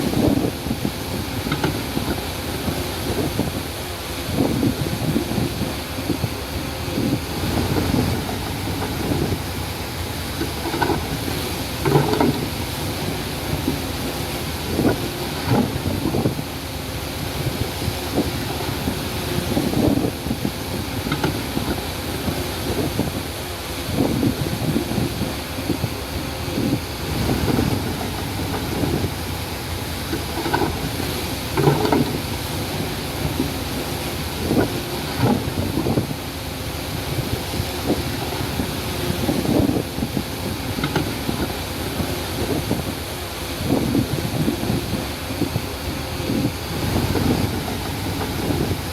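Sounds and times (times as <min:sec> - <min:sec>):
heavy diesel machinery running: 0:00.0 - 0:48.9
wind buffeting microphone: 0:00.0 - 0:48.9.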